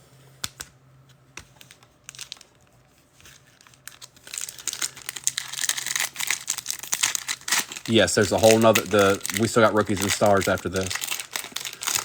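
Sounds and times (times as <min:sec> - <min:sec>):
foil wrapper crinkling: 0:01.6 - 0:12.0.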